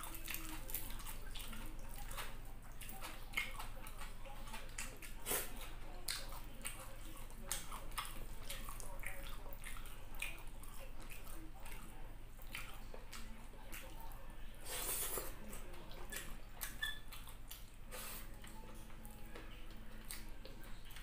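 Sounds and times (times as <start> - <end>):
wet chewing: 0.0 - 21.0.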